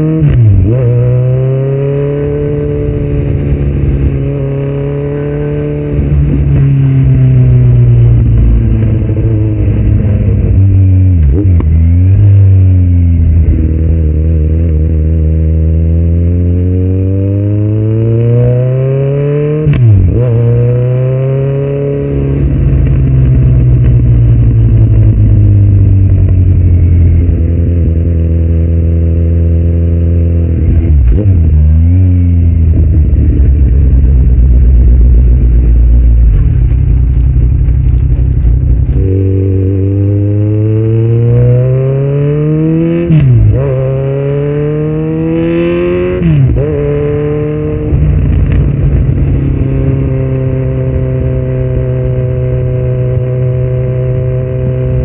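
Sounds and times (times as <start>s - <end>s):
loud motorcycle engine revving: 0.0s - 36.8s, 37.9s - 55.0s.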